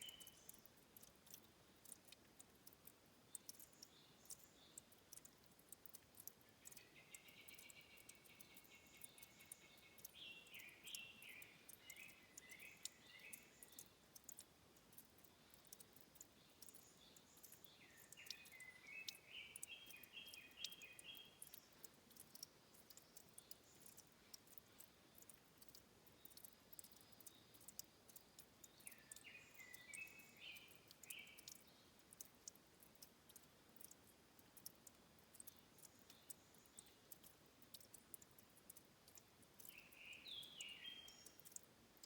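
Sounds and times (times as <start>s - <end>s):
dripping water ticks: 0.0s - 42.0s
songbird singing: 0.0s - 42.0s.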